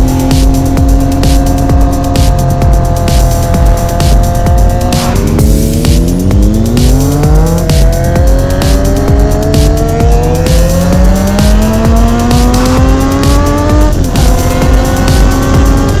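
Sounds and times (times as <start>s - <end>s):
car engine accelerating: 0.0s - 16.0s
music with a regular beat: 0.0s - 16.0s.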